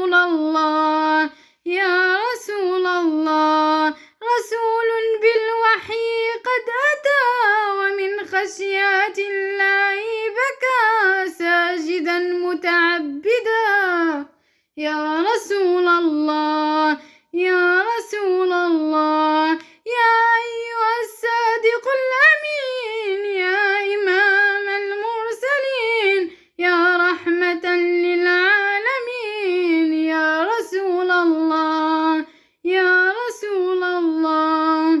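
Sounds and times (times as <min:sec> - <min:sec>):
woman singing unaccompanied: 0:00.0 - 0:35.0.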